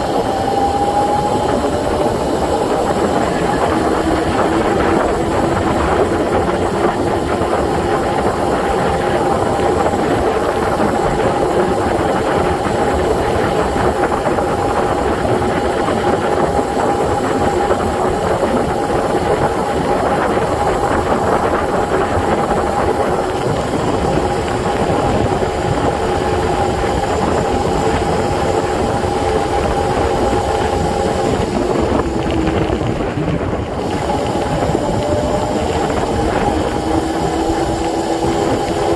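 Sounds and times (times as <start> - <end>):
electric motor whining: 0.0 - 38.9
wind and tyre noise: 0.0 - 38.9.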